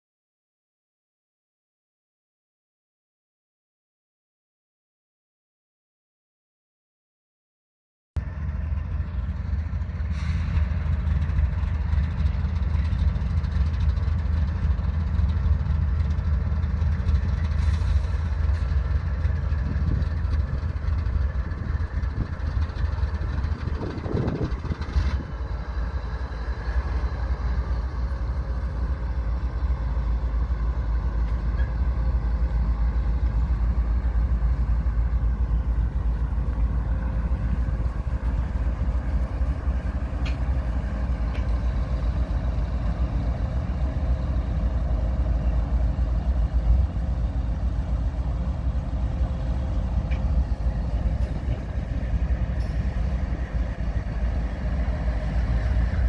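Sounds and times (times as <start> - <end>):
locomotive engines droning: 8.2 - 56.0.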